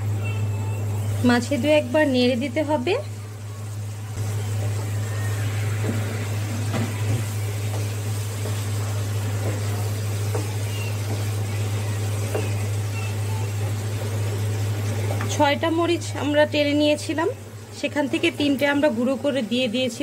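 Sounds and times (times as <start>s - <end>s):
soft sizzle in a pan: 0.0s - 20.0s.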